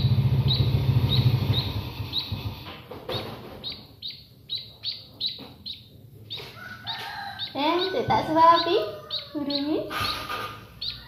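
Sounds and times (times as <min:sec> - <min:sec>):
fledgling bird begging chirps: 0:00.4 - 0:02.4, 0:03.1 - 0:11.0.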